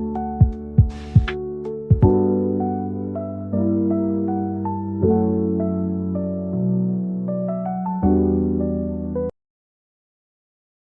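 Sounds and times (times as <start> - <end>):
soft piano chords music: 0.0 - 9.4.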